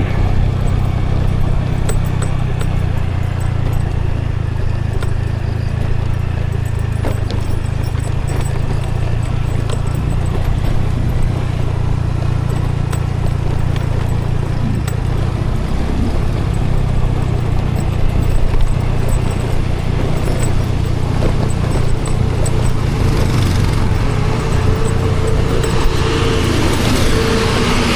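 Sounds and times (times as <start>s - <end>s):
scooter engine droning: 0.0s - 27.9s.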